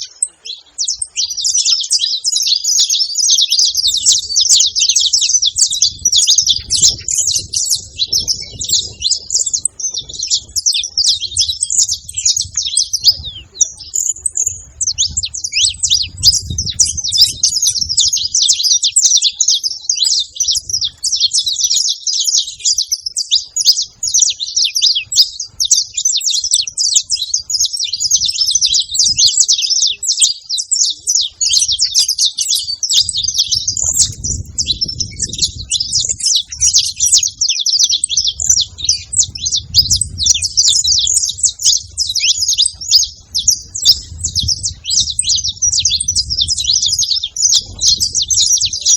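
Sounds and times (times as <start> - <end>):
finch singing rapid chirps and trills: 0.0 - 48.9.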